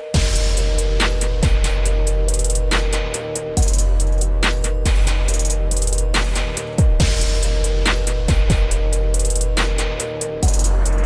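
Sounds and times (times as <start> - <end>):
drum machine drums: 0.0 - 11.0
deep bass: 0.2 - 11.0.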